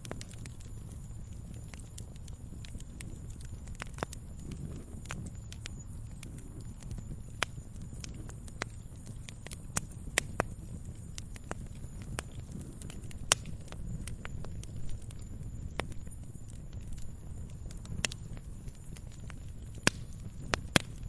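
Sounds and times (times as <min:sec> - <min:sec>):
campfire crackling and popping: 0:00.0 - 0:21.0
low rumble of flames: 0:00.0 - 0:21.0.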